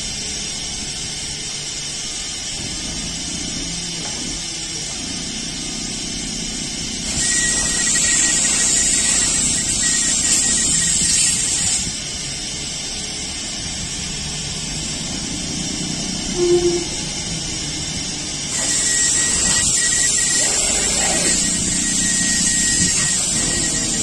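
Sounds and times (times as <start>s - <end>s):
forklift engine running: 0.0s - 24.0s
steady high whine: 0.0s - 24.0s.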